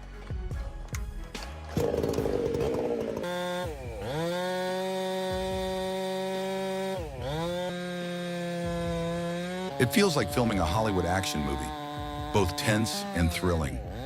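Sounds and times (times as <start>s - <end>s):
chainsaw revving: 1.7s - 14.0s.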